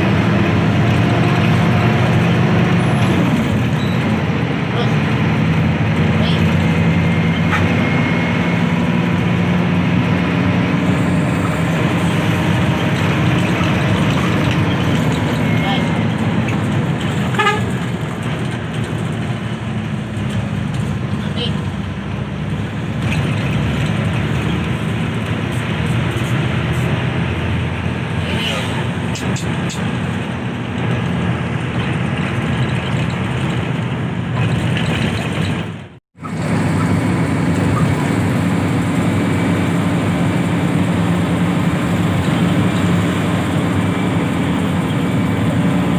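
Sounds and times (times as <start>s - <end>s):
bus diesel engine droning: 0.0s - 45.9s
road noise: 0.0s - 45.9s.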